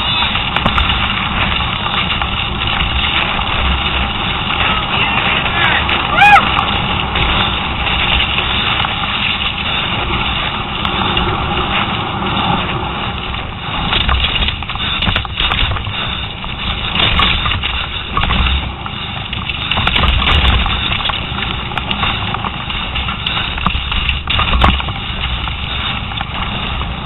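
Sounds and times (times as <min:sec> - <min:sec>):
bike rattling over rocks: 0:00.0 - 0:27.0
tyres on dirt: 0:00.0 - 0:27.0
wind rush on microphone: 0:00.0 - 0:27.0.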